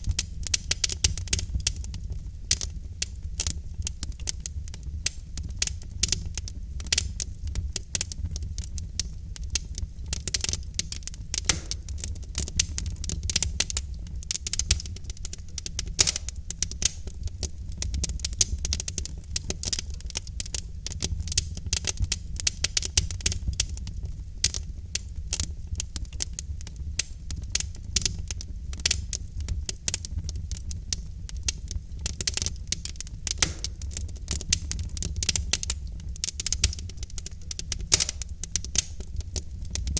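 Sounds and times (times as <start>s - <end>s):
burning logs snapping and popping: 0.0s - 39.9s
low rumble of flames: 0.0s - 39.9s.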